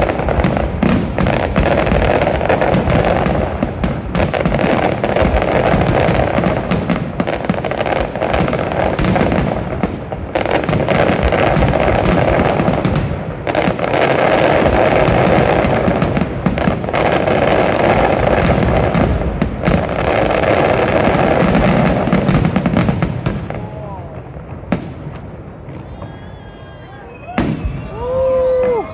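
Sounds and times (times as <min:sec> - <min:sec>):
fireworks bangs and crackles: 0:00.0 - 0:28.9
fireworks roar: 0:00.0 - 0:28.9.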